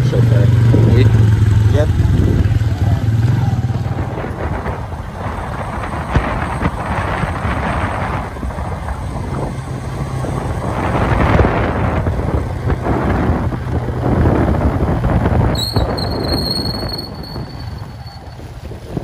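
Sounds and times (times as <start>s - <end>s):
vehicle engine drone: 0.0s - 19.0s
wind buffeting microphone: 0.1s - 19.0s.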